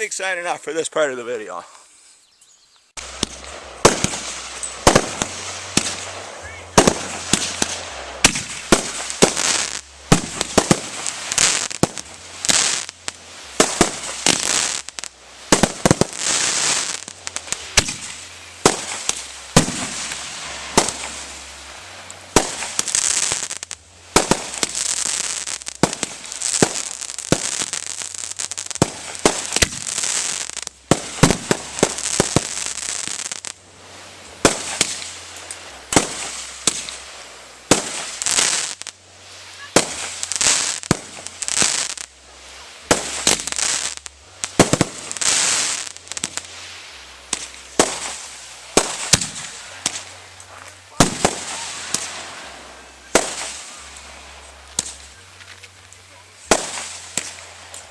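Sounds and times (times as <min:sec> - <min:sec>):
crackling hiss of fireworks: 0:00.0 - 0:57.9
fireworks bursting with bangs: 0:02.9 - 0:57.9.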